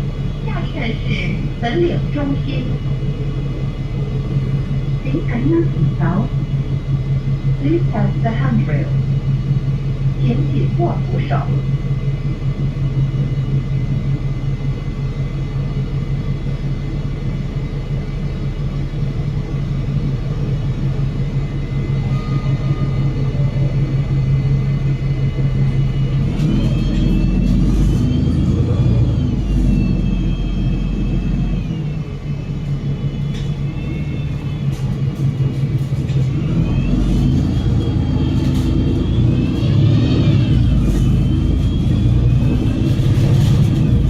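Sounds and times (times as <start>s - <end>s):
bus diesel engine drone: 0.0s - 44.0s
drivetrain whine: 0.0s - 44.0s.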